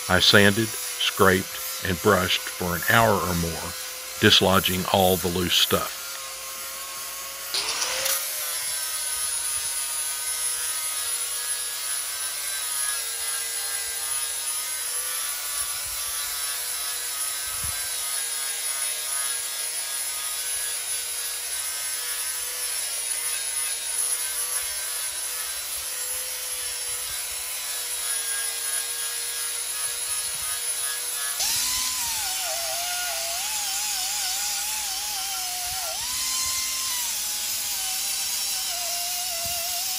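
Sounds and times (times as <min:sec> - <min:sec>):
angle grinder whine: 0:00.0 - 0:39.9.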